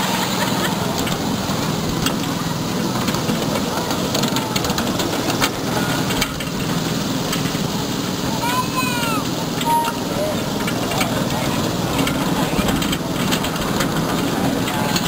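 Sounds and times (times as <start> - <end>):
miniature train rumbling: 0.0 - 15.0
wheels clicking on rails: 0.0 - 15.0.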